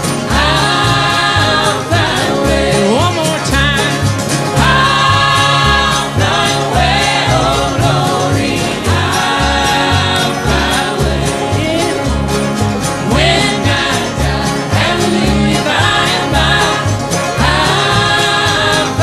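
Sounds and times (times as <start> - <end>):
steady bass beat: 0.0 - 19.0
strummed acoustic guitars: 0.0 - 19.0
singers in harmony: 0.1 - 3.1, 4.6 - 12.3, 13.0 - 19.0.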